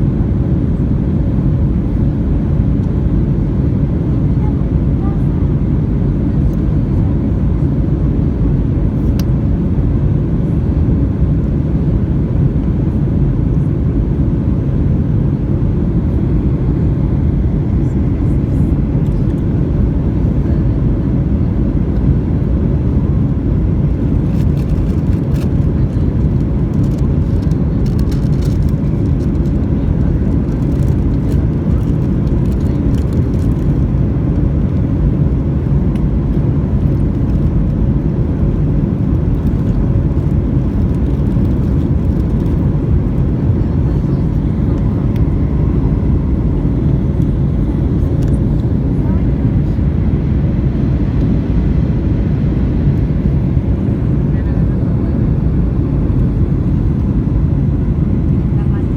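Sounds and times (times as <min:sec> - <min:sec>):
jet engines and airflow rumbling: 0:00.0 - 0:58.9.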